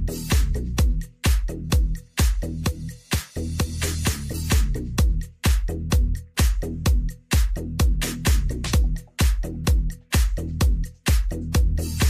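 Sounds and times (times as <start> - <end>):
house dance music: 0.0 - 12.0.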